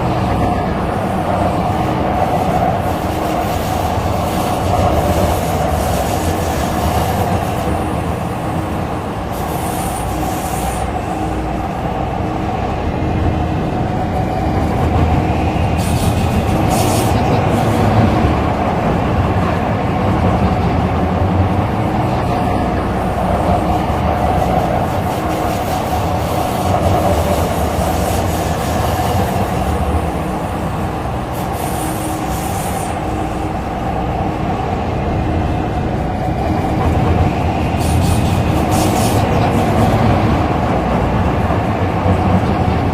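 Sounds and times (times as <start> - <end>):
train hum: 0.0 - 42.9
train wheels rumbling on rail: 0.0 - 42.9.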